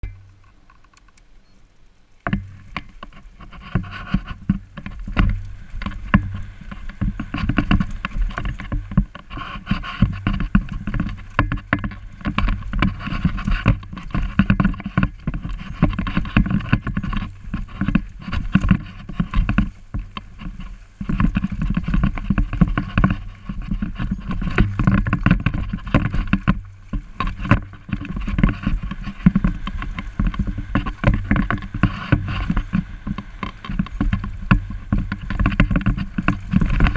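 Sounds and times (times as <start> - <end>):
bike rattling over bumpy trail: 0.0 - 36.9.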